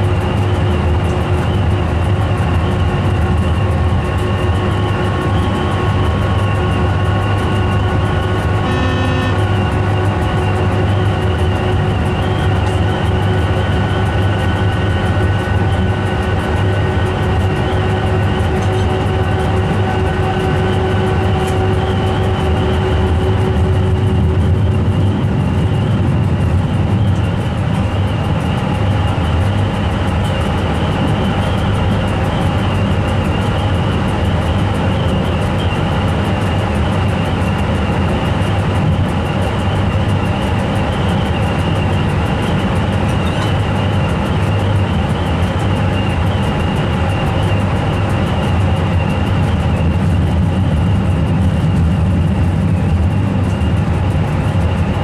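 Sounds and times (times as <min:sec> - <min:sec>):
high whine: 0:00.0 - 0:55.0
train wheels rumbling on rails: 0:00.0 - 0:55.0.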